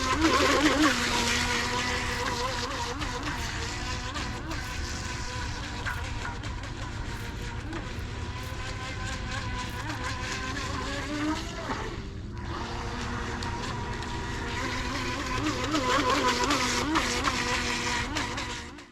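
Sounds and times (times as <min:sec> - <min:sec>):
electric motor whining: 0:00.0 - 0:18.9.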